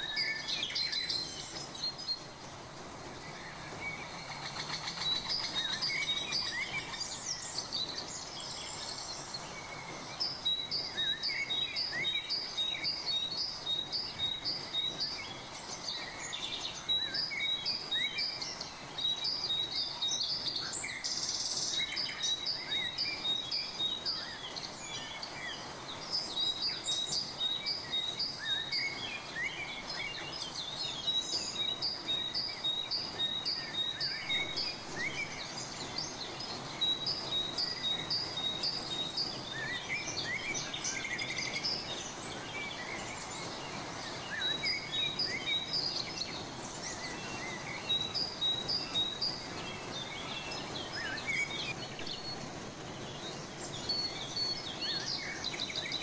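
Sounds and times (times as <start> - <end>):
birds singing and chirping: 0.0 - 56.0
steady background hiss: 0.0 - 56.0.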